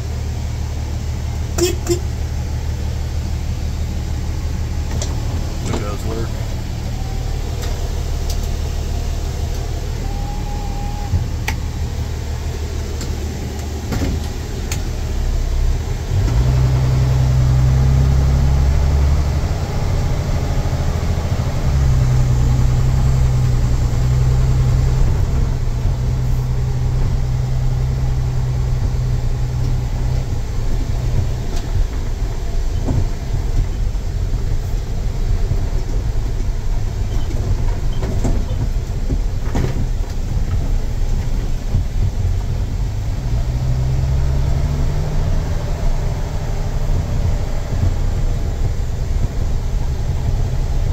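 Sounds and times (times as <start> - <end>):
diesel truck engine rumbling: 0.0 - 50.9.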